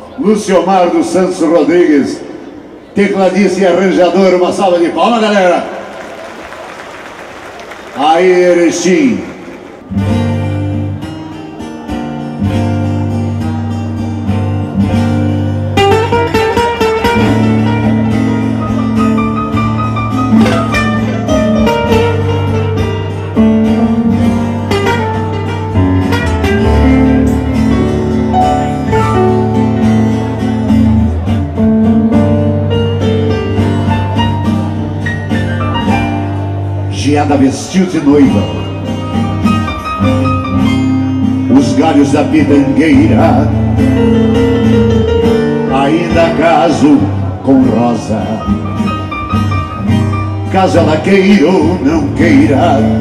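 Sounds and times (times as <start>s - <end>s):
low keyboard chords: 8.6s - 53.0s
picked acoustic guitar melody: 9.5s - 53.0s.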